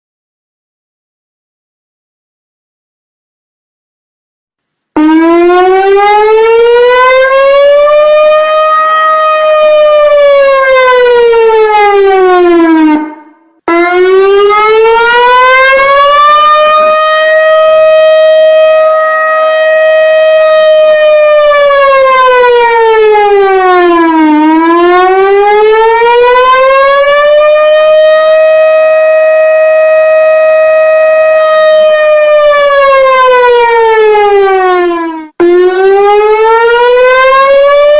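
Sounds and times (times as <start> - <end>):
warning siren rising and falling: 5.0 - 37.9.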